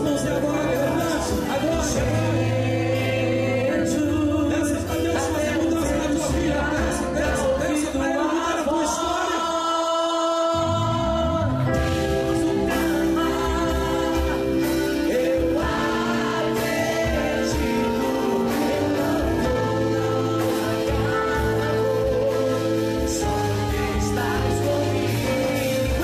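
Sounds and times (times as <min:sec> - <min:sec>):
bass and drums: 0:00.0 - 0:08.6, 0:10.6 - 0:26.0
person singing: 0:00.0 - 0:26.0
worship band playing: 0:00.0 - 0:26.0.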